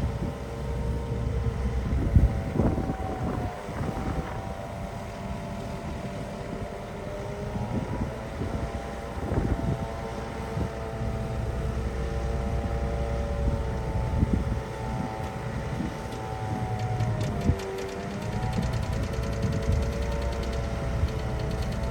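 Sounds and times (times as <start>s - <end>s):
diesel engine rumbling: 0.0s - 21.9s.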